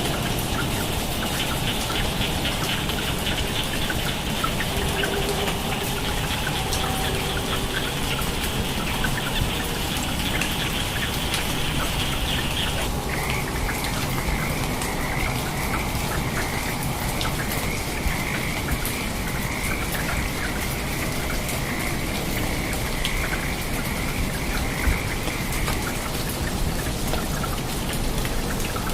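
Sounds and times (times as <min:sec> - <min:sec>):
rain pattering: 0:00.0 - 0:28.9.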